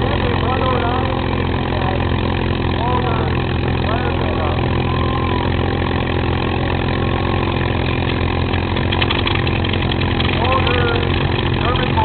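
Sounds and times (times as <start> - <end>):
piston aero engine droning: 0.0 - 12.0.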